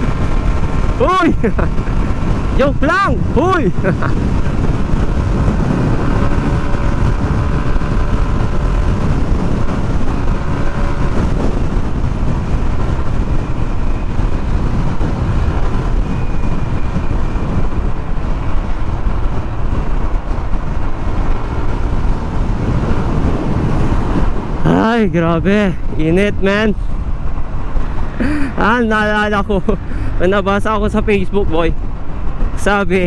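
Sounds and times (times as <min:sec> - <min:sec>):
road noise: 0:00.0 - 0:33.0
wind rush: 0:00.0 - 0:33.0.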